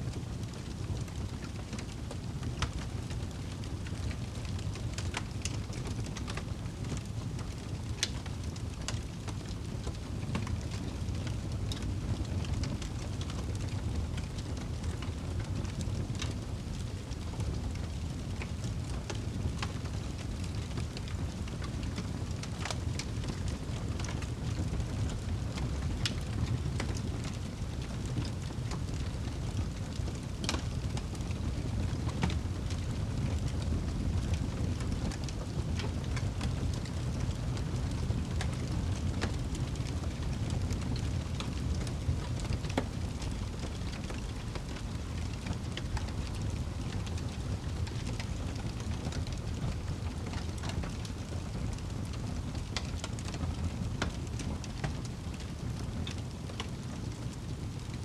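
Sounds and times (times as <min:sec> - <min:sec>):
wood fire rumbling: 0:00.0 - 0:58.0
fire popping and crackling: 0:00.1 - 0:58.0.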